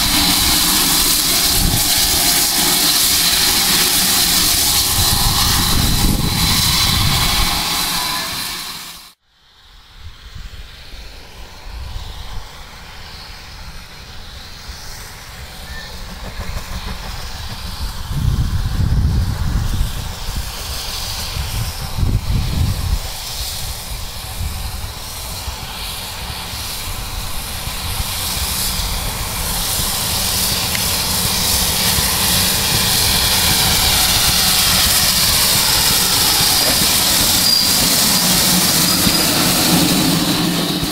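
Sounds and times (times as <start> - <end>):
steam locomotive hissing and rumbling: 0.0 - 40.9.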